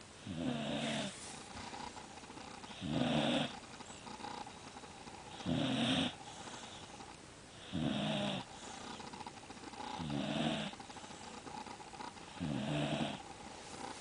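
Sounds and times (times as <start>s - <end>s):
dog snoring: 0.2s - 14.0s
dog breathing: 0.5s - 14.0s.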